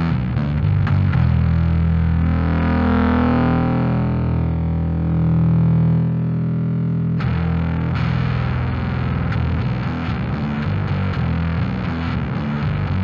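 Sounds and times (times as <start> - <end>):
distorted bass guitar notes: 0.0 - 13.0.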